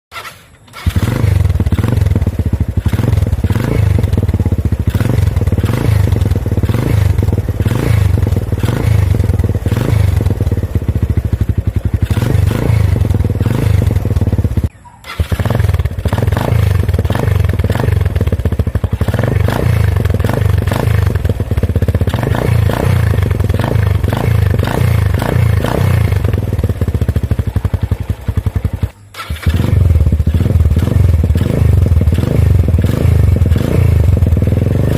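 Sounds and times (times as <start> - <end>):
motorcycle engine running loud: 0.2 - 34.9.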